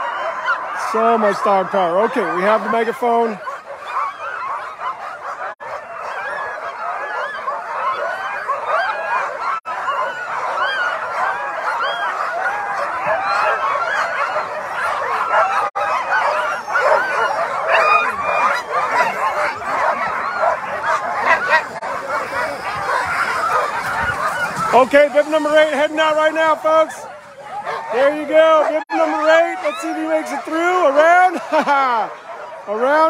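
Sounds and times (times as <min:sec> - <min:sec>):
sled dogs yelping and barking: 0:00.0 - 0:33.0.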